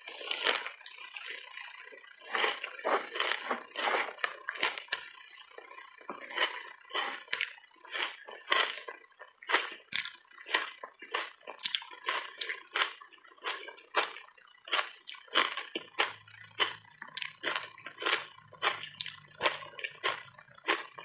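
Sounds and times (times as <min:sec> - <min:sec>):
ice being bitten and chewed: 0:00.0 - 0:21.0.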